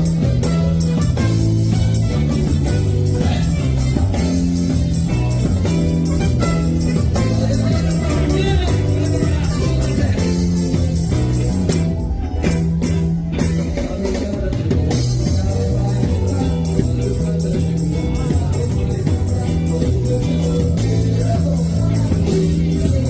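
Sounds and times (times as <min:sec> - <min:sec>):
amplified band music: 0:00.0 - 0:23.0
person singing: 0:00.0 - 0:23.0
steady drum beat: 0:00.0 - 0:23.0
stepping bass line: 0:00.0 - 0:23.0.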